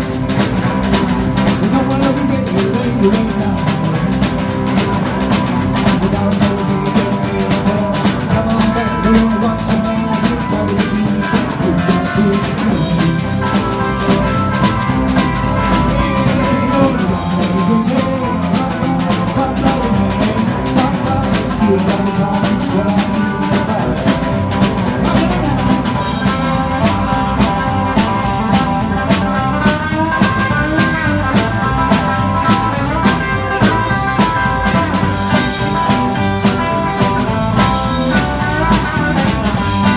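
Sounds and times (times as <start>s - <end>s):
drum kit beat: 0.0s - 39.9s
electric guitars: 0.0s - 39.9s.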